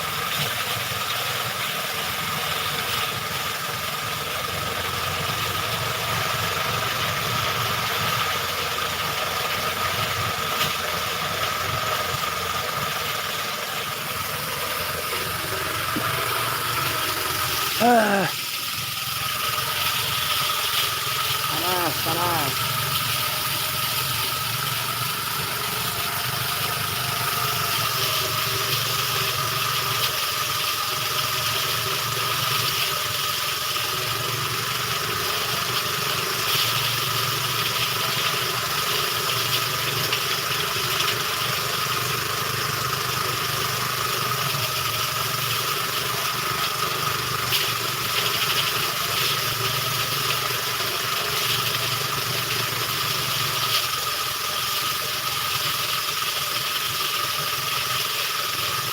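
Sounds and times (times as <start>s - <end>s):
threshing machine humming and whining: 0.0s - 58.9s.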